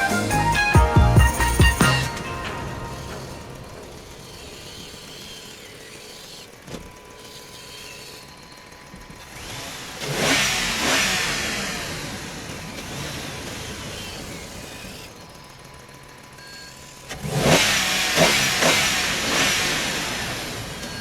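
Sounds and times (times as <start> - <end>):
engine with gliding pitch: 1.3 - 21.0.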